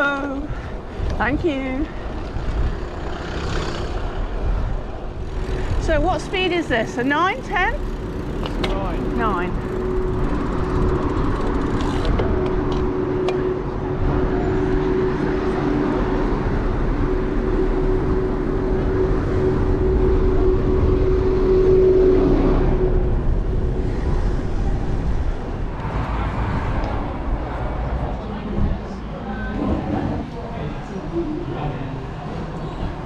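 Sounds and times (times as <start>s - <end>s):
road traffic drone: 0.0s - 33.0s
wind rumbling on microphone: 0.0s - 33.0s.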